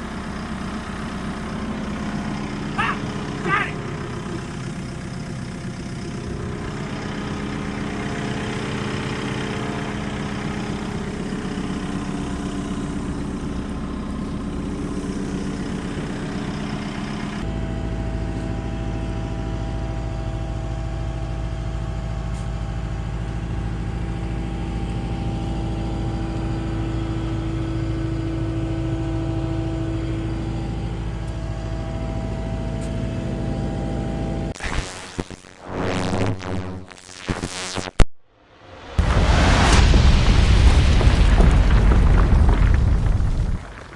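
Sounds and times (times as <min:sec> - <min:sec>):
skid steer engine running: 0:00.0 - 0:35.0, 0:38.8 - 0:43.9.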